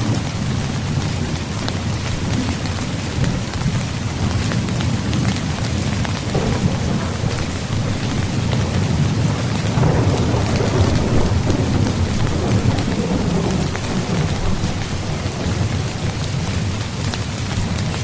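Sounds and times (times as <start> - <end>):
deep rumble of thunder: 0.0 - 18.0
rain on tent fabric: 0.0 - 18.0.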